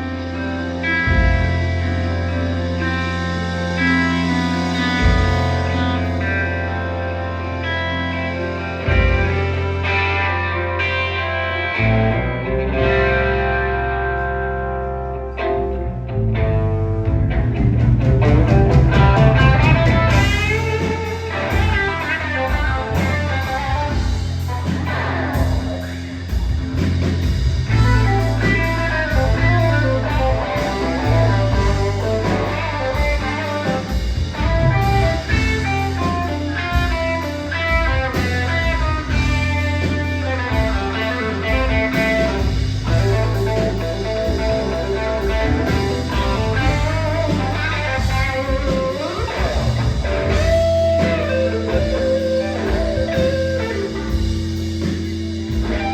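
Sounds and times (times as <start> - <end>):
bass guitar: 0.0 - 55.9
electric guitar: 0.0 - 55.9
steady drum beat: 1.1 - 6.2, 8.8 - 9.9, 17.2 - 55.9.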